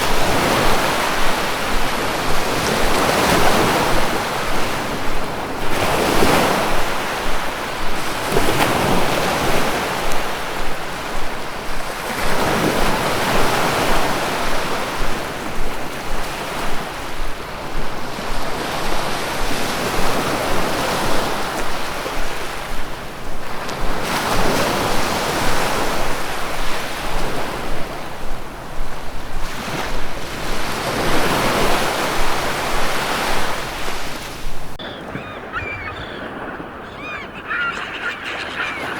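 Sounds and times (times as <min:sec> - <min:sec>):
constant surf rush: 0:00.0 - 0:38.9
waves breaking: 0:00.0 - 0:38.9.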